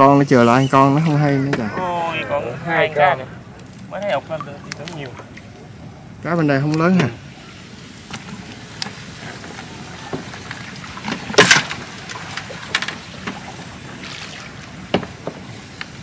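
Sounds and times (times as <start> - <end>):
water lapping and trickling: 3.0 - 16.0.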